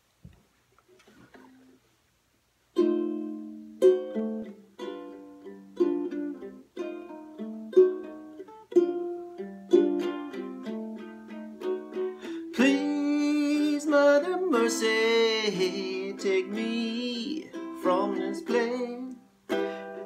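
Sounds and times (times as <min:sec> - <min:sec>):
ukulele chords: 0:02.7 - 0:20.0.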